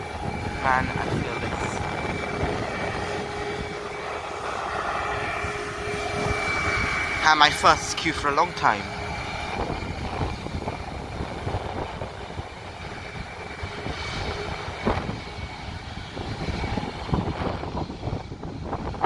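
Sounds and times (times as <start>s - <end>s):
jet engines idling: 0.0s - 17.2s.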